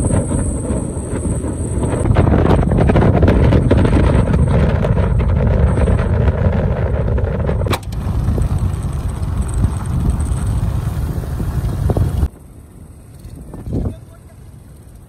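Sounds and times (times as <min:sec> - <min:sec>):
motorbike engine running: 0:00.0 - 0:15.0
wind buffeting microphone: 0:00.0 - 0:15.0.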